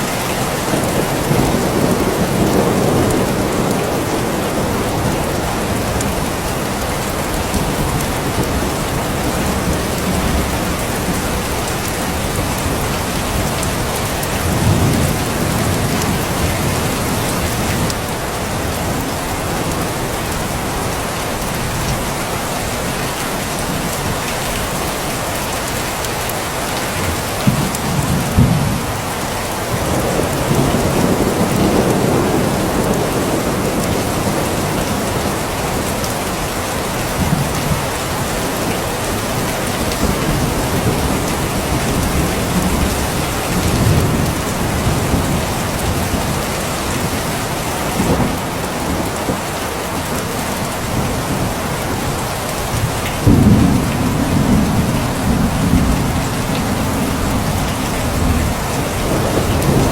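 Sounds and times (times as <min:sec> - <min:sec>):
low thunder rumbles: 0:00.0 - 0:20.9, 0:27.0 - 0:50.2, 0:50.8 - 0:59.9
steady rain falling: 0:00.0 - 0:59.9.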